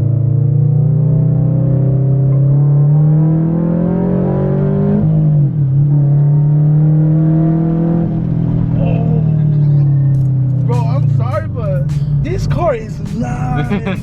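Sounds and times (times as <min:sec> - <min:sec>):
car engine revving and shifting: 0:00.0 - 0:14.0.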